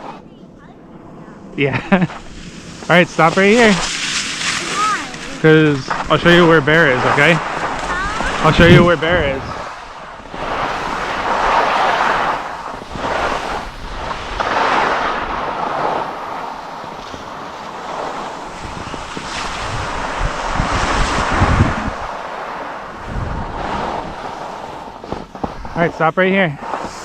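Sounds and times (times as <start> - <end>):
wind buffeting microphone: 0.0 - 26.0
skis scraping over snow: 1.6 - 27.0.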